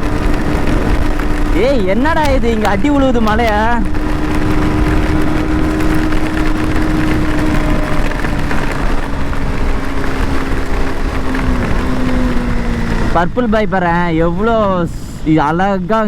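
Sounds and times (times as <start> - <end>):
motorcycle engine running: 0.0 - 15.0
rain noise: 0.0 - 16.0
wind rushing: 0.0 - 16.0.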